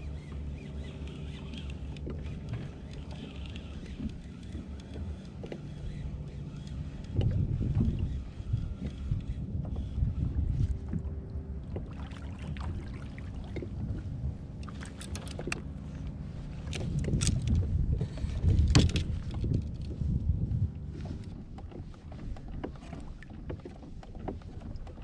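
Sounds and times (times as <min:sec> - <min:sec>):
water and hull rumble: 0:00.0 - 0:25.0.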